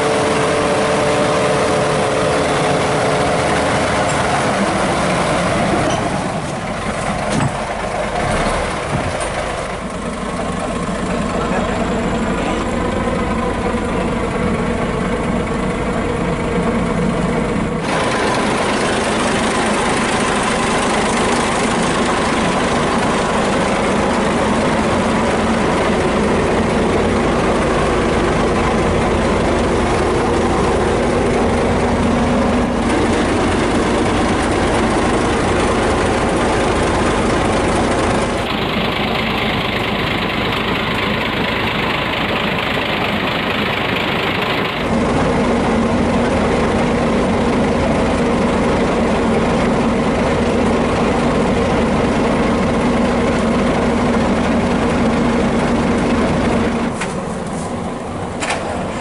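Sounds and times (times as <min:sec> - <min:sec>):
bulldozer diesel engine idling: 0:00.0 - 0:59.0.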